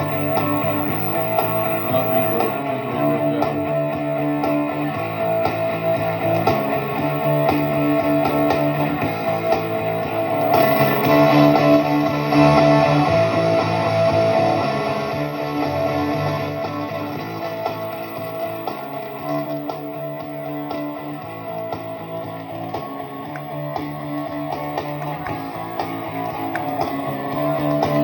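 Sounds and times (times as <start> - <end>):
electric guitar phrase with reverb: 0.0 - 28.0.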